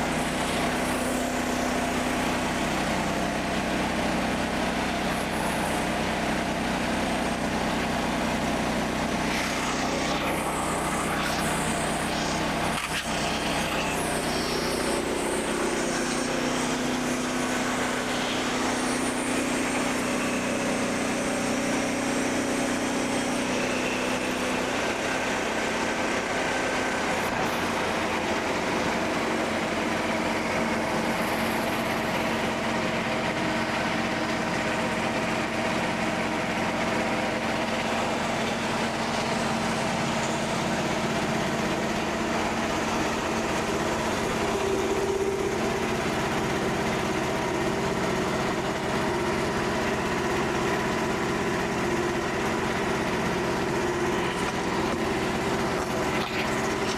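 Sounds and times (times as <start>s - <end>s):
bandsaw sawmill running: 0.0s - 56.9s.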